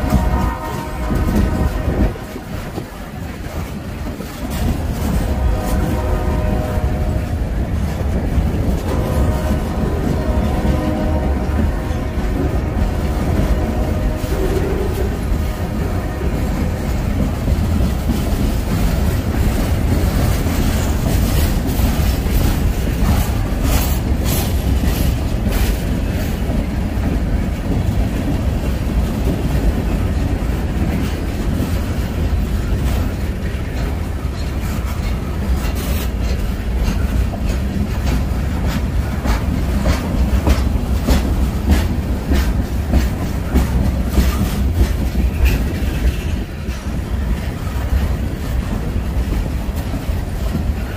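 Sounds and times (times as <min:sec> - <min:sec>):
freight train rumbling past: 0:00.0 - 0:50.9
wheels clicking over rail joints: 0:00.0 - 0:50.9.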